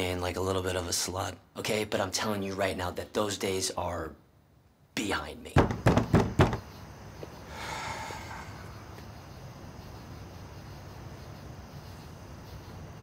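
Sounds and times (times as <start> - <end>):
distant traffic hum: 0.0 - 13.0
faint hiss: 0.0 - 13.0.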